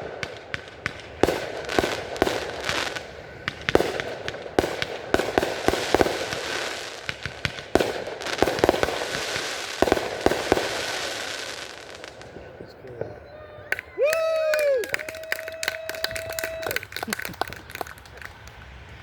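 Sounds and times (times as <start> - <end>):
fireworks bangs: 0.0 - 19.0
fireworks crackling hiss: 0.0 - 19.0.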